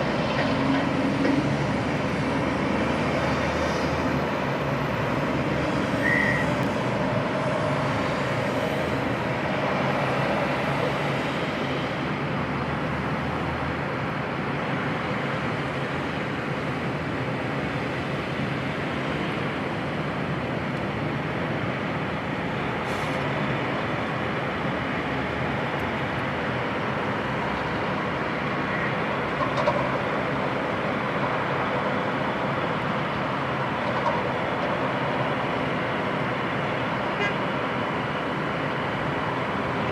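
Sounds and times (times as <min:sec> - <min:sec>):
diesel truck engines running: 0:00.0 - 0:39.9.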